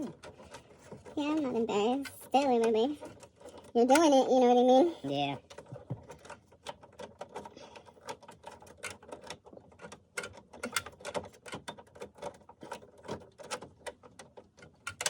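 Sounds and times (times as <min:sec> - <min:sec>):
plastic parts clicking: 0:00.0 - 0:04.6, 0:05.4 - 0:15.0.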